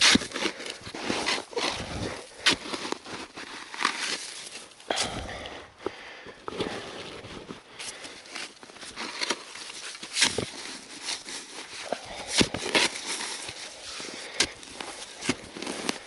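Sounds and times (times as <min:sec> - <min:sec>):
shovel scraping snow and earth: 0:00.0 - 0:05.3, 0:06.6 - 0:16.0.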